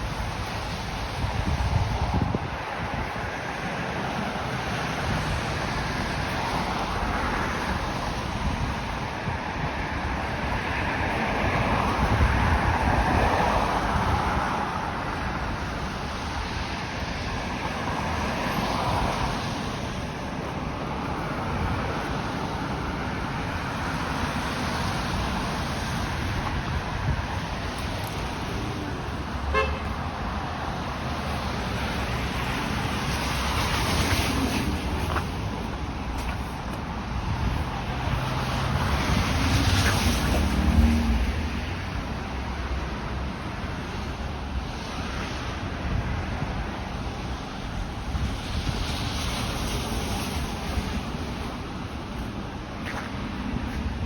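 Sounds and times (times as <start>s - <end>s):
city traffic passing cars: 0.0s - 54.0s.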